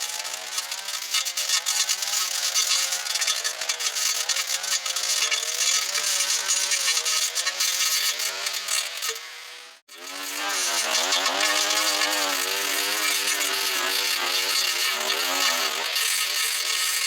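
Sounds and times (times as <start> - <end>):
two-stroke power tool engine: 0.0 - 17.0.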